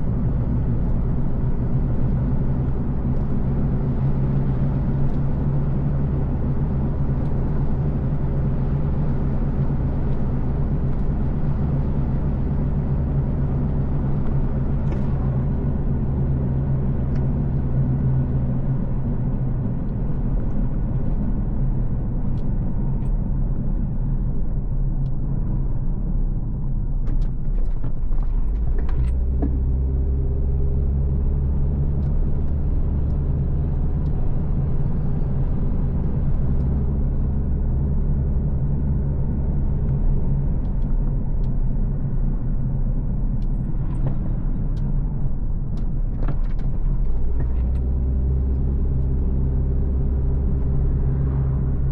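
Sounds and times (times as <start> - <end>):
car engine and tyre rumble: 0.0 - 51.9.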